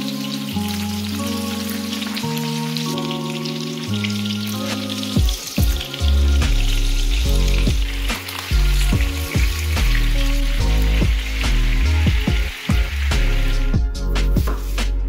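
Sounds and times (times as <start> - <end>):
background music with heavy bass: 0.0 - 15.0
chicken sizzling in a frying pan: 0.0 - 15.0.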